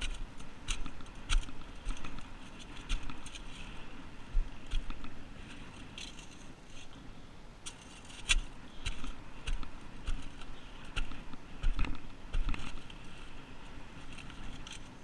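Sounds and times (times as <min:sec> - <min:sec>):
spade digging in stones and sand: 0:00.0 - 0:03.8, 0:04.6 - 0:06.9, 0:07.6 - 0:13.4, 0:14.0 - 0:15.0.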